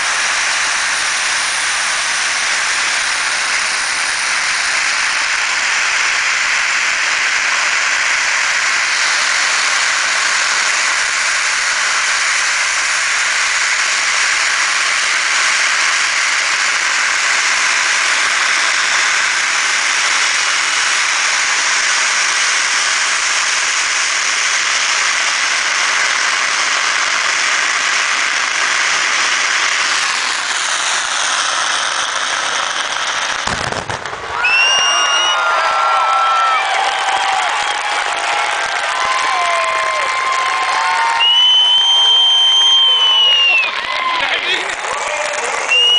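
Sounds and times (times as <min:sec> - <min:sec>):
firecrackers crackling: 0:00.0 - 0:45.9.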